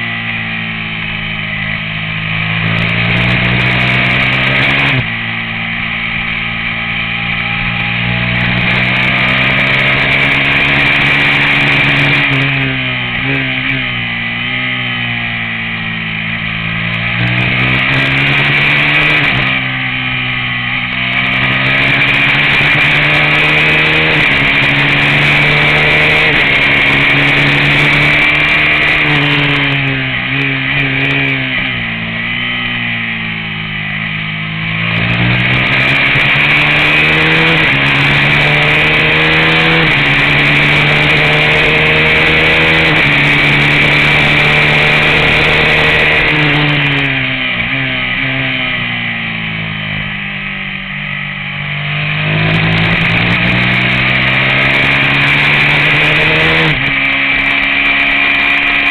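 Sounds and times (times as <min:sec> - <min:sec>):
race motorcycle engine revving: 0:00.0 - 0:58.9.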